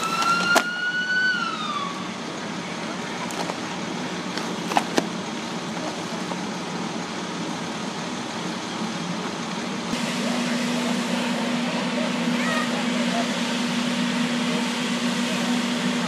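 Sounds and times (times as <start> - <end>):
fire engine hum: 0.0 - 16.0
fire engines droning: 0.0 - 16.0.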